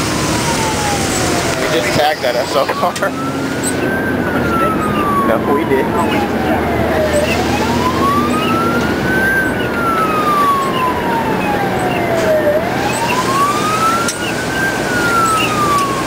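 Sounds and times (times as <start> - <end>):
emergency siren wailing: 0.0 - 16.0
steady background noise: 0.0 - 16.0.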